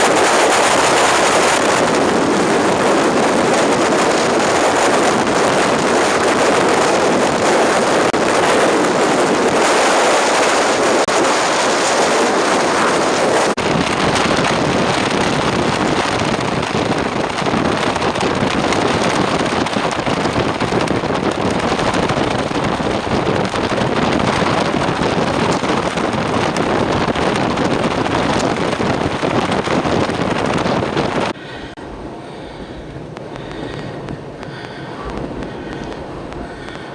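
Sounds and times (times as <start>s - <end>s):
strong wind on microphone: 0.0s - 36.9s.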